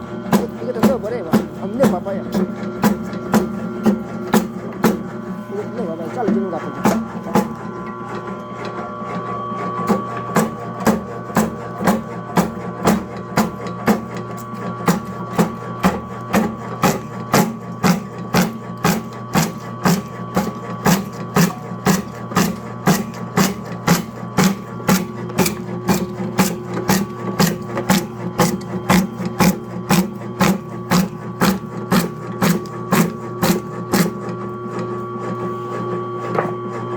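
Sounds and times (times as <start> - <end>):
cutting machine motor hum: 0.0 - 36.9.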